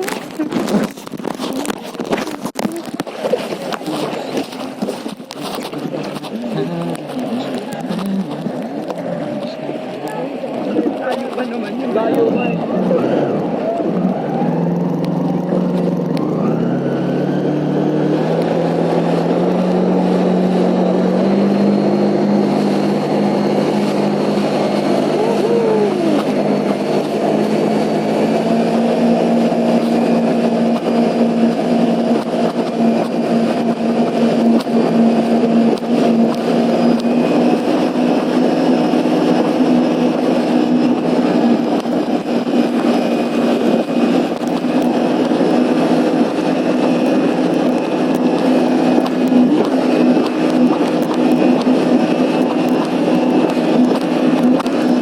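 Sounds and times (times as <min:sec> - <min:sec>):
jet ski engine running: 0:00.0 - 0:55.0
rush of water and wind: 0:00.0 - 0:55.0.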